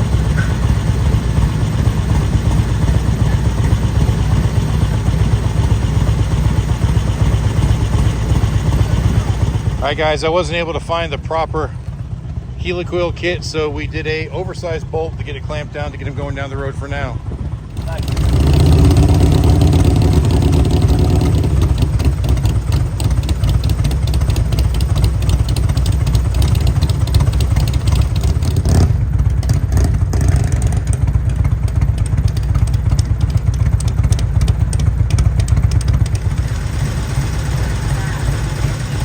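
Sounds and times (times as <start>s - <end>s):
motorcycle engine rumbling: 0.0s - 39.0s.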